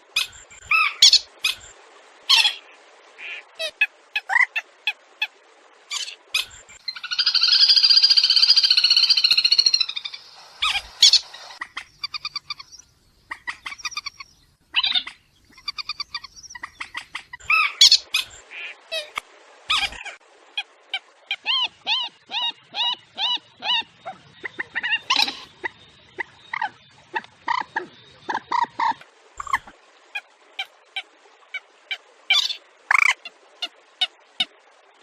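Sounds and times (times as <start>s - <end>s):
water birds chattering: 0.0s - 35.0s.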